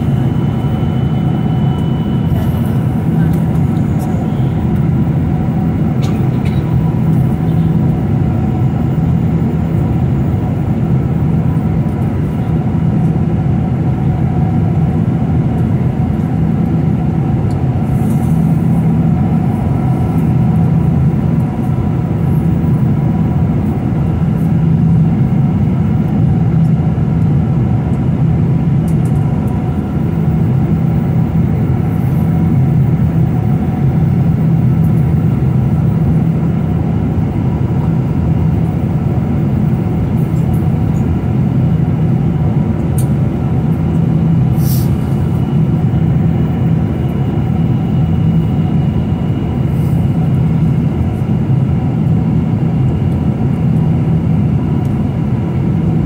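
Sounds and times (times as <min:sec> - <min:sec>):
airliner cabin drone: 0:00.0 - 0:56.0.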